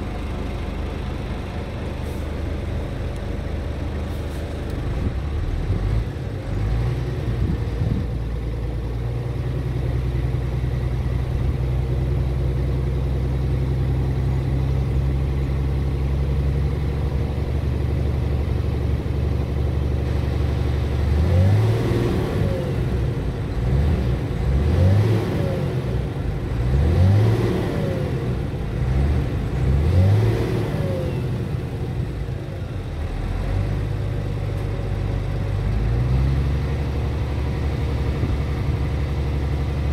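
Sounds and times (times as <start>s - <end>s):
truck diesel engine revving: 0.0s - 39.9s.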